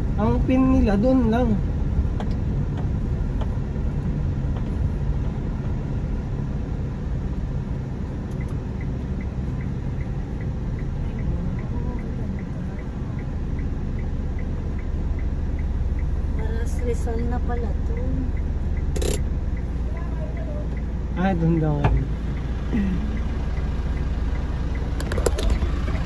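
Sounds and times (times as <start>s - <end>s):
truck engine running: 0.0s - 26.0s
light regular ticking: 0.1s - 26.0s.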